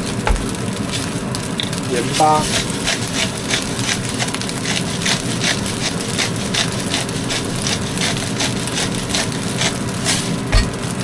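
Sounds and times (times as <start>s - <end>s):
rice stir-frying in pan: 0.0s - 11.0s
spatula scraping pan: 0.0s - 11.0s.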